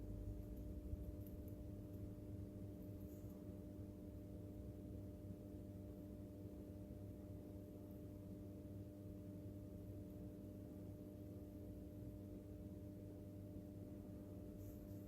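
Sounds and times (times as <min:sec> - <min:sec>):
faint low room hum: 0:00.0 - 0:15.0.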